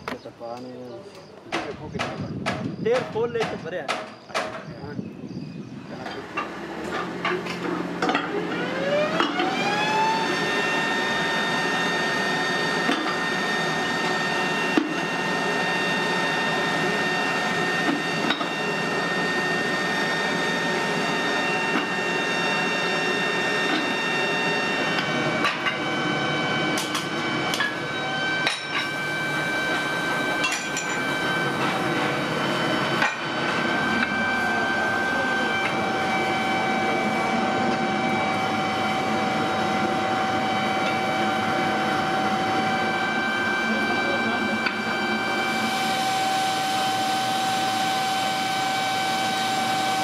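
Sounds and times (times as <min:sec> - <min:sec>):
electric motor whine: 0:06.5 - 0:50.0.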